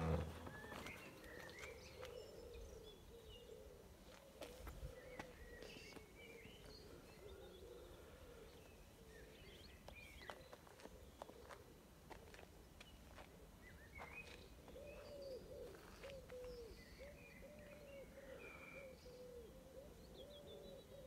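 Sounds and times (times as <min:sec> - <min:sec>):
small birds chirping: 0:00.0 - 0:11.6, 0:12.7 - 0:21.0.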